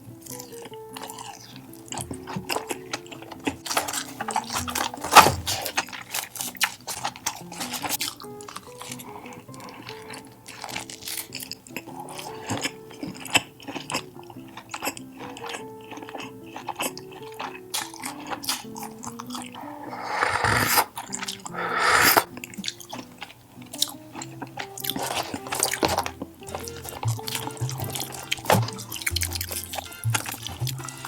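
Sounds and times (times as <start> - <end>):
chewing and crunching food: 0.0 - 31.0
light background music: 0.0 - 31.0.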